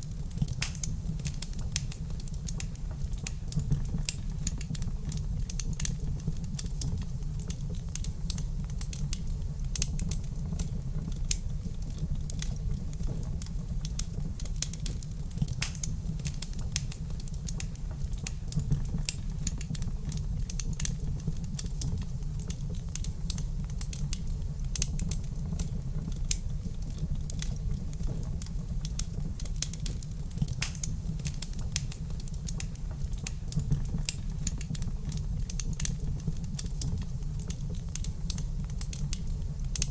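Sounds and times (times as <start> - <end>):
steady low rumble: 0.0 - 39.9
wood fire crackling: 0.0 - 39.9.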